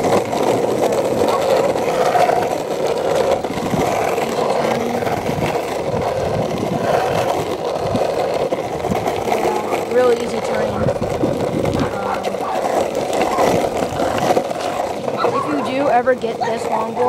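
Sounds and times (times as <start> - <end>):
longboard wheels rolling: 0.0 - 17.0.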